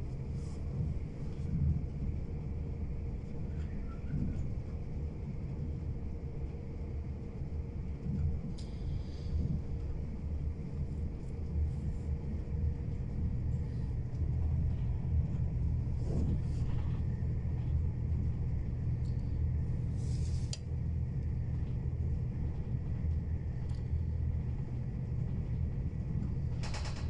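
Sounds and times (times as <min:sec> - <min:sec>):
train rumbling on track: 0:00.0 - 0:27.0.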